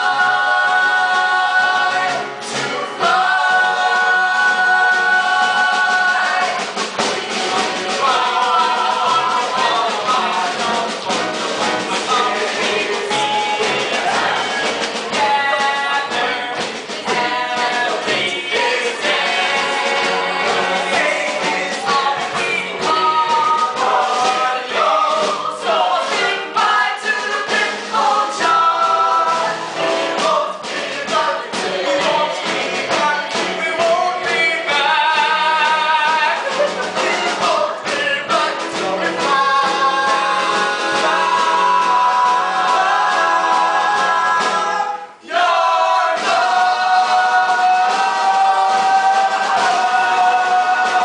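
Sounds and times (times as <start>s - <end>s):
instrumental accompaniment: 0.0s - 51.0s.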